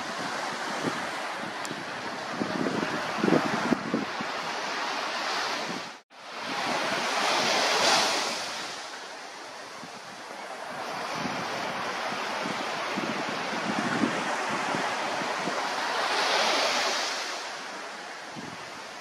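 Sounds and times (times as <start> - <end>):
wind buffeting microphone: 0.0 - 8.8, 9.6 - 17.2, 18.2 - 19.0
sea surf washing: 0.0 - 19.0.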